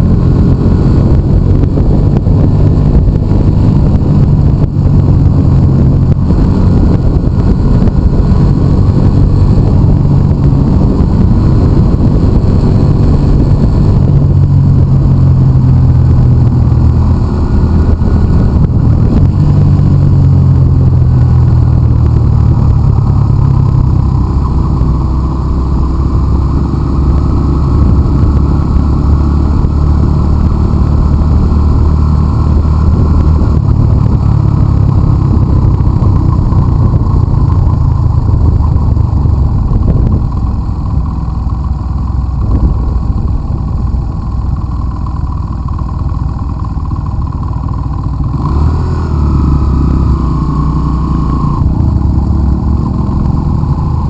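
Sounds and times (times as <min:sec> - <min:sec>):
motorcycle engine running: 0:00.0 - 0:54.0
tyre noise on wet road: 0:00.0 - 0:54.0.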